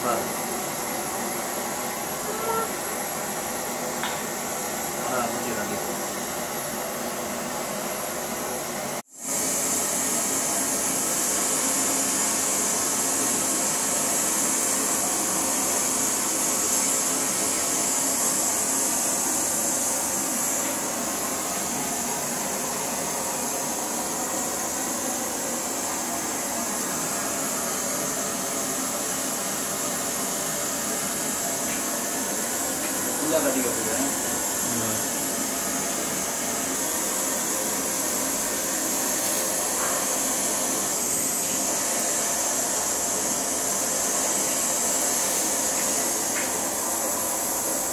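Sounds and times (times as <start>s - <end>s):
steady hiss: 9.2s - 47.9s.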